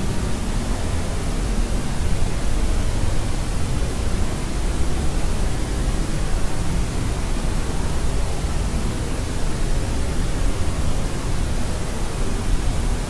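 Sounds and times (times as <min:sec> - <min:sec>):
steady white noise: 0:00.0 - 0:13.0.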